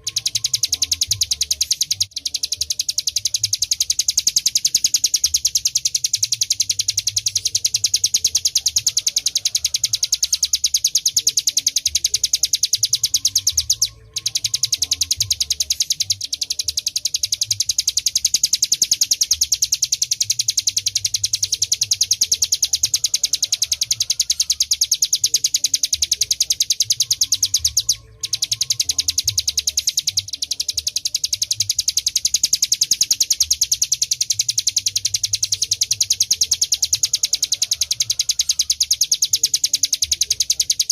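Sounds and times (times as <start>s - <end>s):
bird high-pitched rattling trill: 0.0s - 40.9s.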